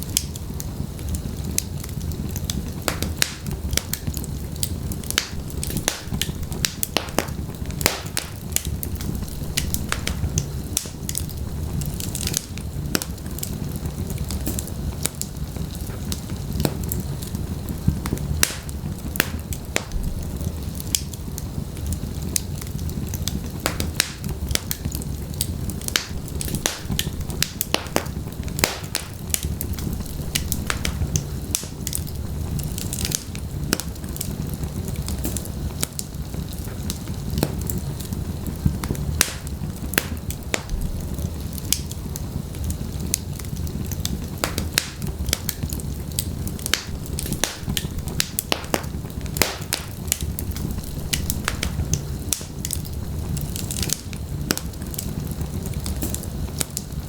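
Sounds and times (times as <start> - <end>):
fire crackling and popping: 0.0 - 57.0
wood fire burning: 0.0 - 57.0.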